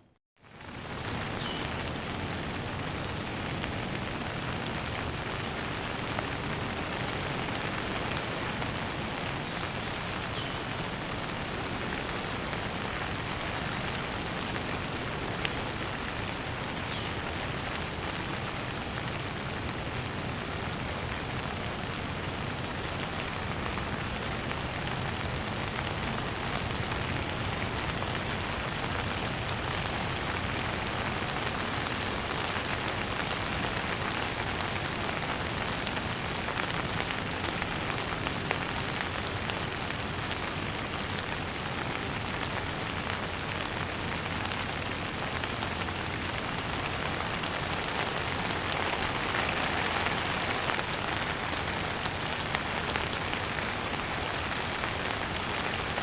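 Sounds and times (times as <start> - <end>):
gentle rain falling: 0.4 - 56.0.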